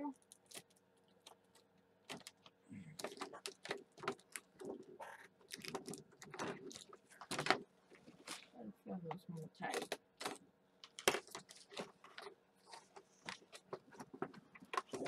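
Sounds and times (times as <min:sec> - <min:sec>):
plastic case crinkling: 0:00.2 - 0:08.6, 0:09.6 - 0:15.0.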